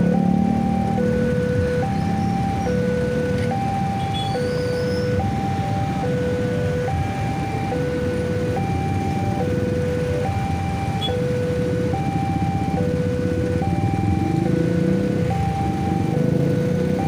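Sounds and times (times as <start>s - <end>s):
motorcycle engines idling: 0.0s - 17.0s
two-tone crossing alarm: 0.0s - 17.0s.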